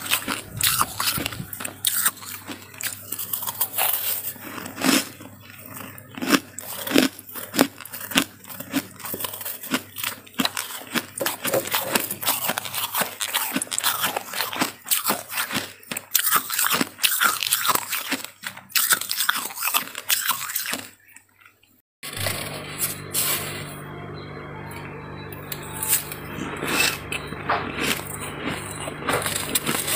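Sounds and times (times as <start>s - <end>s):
frost being chewed: 0.0s - 23.7s, 25.4s - 29.9s.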